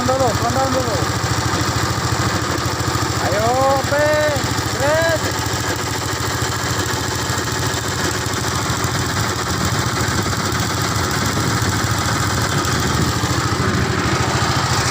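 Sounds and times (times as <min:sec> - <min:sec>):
engine running with low rumble: 0:00.0 - 0:14.9.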